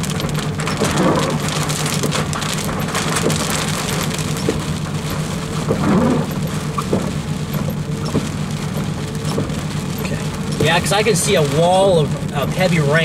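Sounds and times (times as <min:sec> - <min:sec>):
rain drops on vehicle roof: 0:00.0 - 0:13.0.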